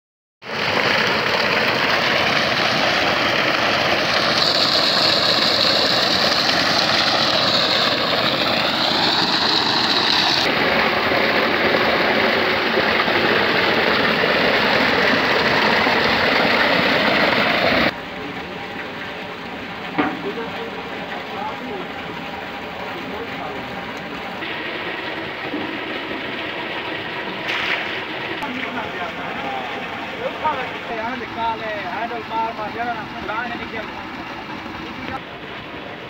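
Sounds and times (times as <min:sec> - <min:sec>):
water gushing from a pipe: 0:00.4 - 0:36.0
water splashing into a channel: 0:00.4 - 0:36.0.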